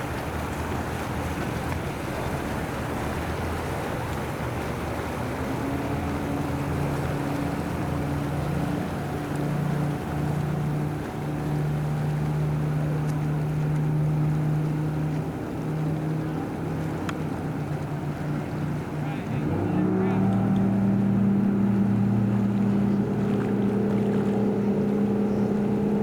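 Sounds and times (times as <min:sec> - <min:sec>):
outboard engine running: 0:00.0 - 0:26.0
wind and water rushing: 0:00.0 - 0:26.0.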